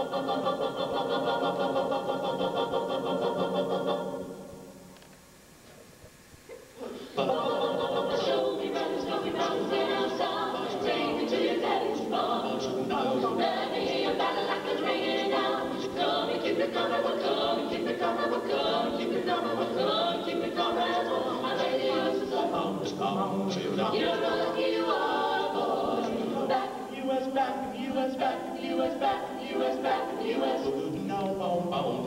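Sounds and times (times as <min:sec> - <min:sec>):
vocal group singing in harmony: 0:00.0 - 0:05.0, 0:06.8 - 0:32.0.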